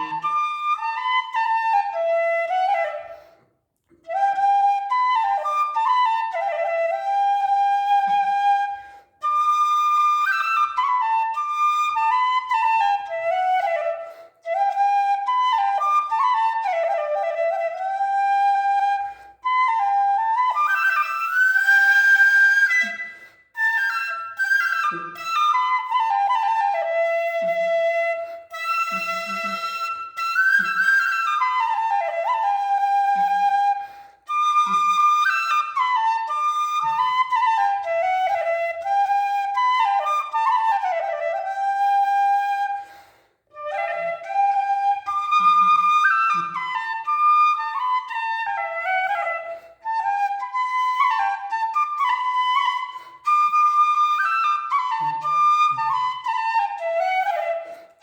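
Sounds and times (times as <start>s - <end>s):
bamboo flute melody: 0.0s - 58.0s.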